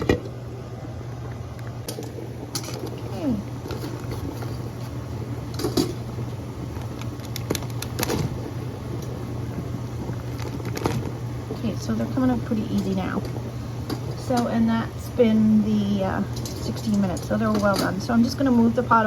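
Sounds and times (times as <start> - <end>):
pot boiling: 0.0 - 19.0.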